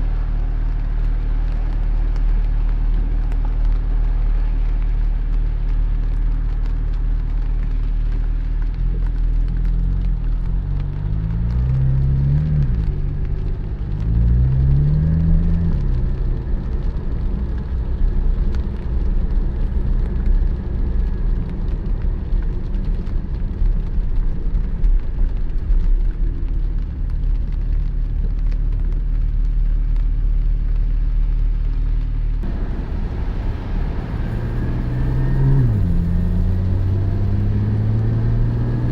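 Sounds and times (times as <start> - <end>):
car engine running: 0.0 - 29.2, 29.9 - 38.9
road noise: 0.0 - 38.9.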